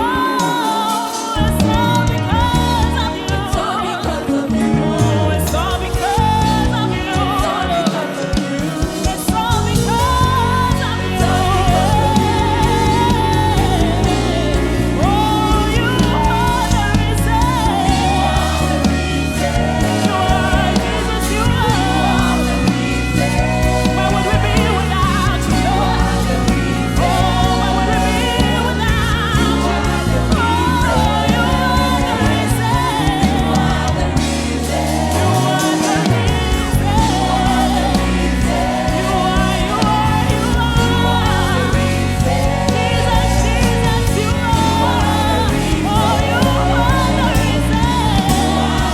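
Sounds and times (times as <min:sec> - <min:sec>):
bass guitar: 0:00.0 - 0:48.9
choir singing: 0:00.0 - 0:48.9
gospel band with drums and keyboards: 0:00.0 - 0:48.9
lead singer: 0:00.0 - 0:48.9.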